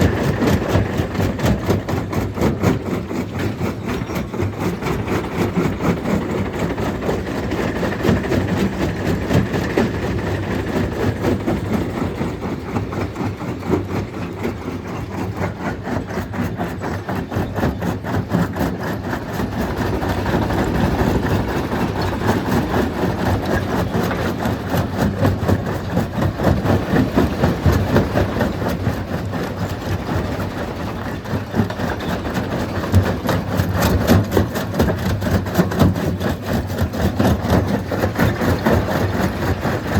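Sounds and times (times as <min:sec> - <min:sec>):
stone crusher engine drone: 0:00.0 - 0:39.9.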